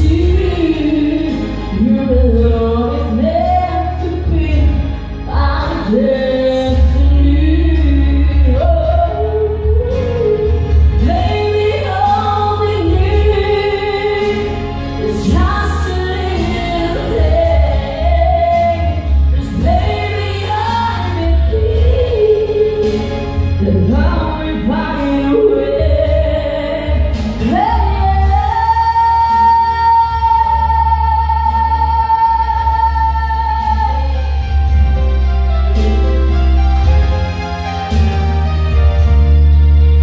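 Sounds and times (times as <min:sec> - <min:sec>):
woman singing into microphone: 0:00.0 - 0:34.8
karaoke backing track: 0:00.0 - 0:40.0.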